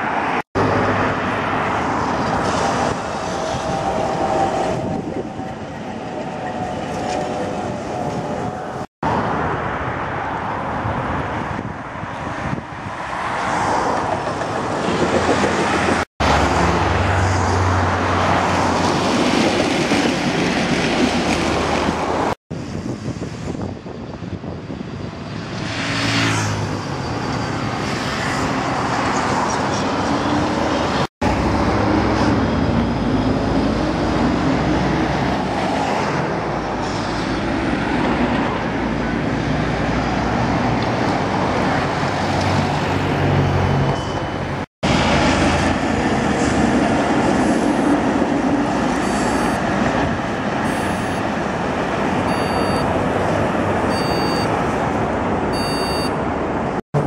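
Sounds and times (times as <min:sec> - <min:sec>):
trams passing: 0:00.0 - 0:23.5, 0:24.1 - 0:57.0
road traffic noise: 0:00.0 - 0:57.0.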